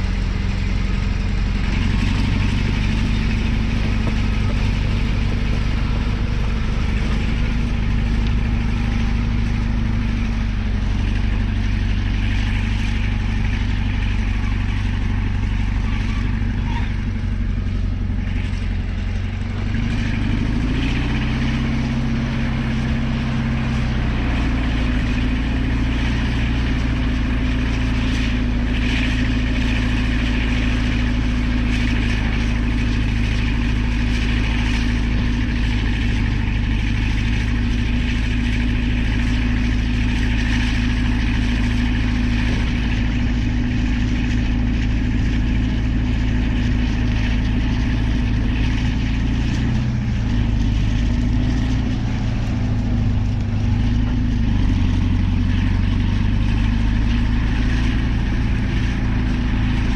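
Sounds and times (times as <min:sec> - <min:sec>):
bulldozer diesel engine drone: 0:00.0 - 0:59.9.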